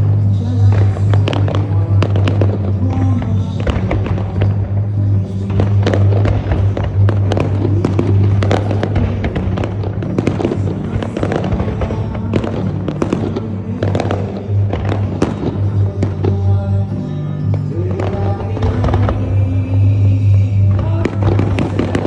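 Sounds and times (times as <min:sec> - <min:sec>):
fireworks bangs: 0:00.0 - 0:22.0
loud music with bass line: 0:00.0 - 0:22.0.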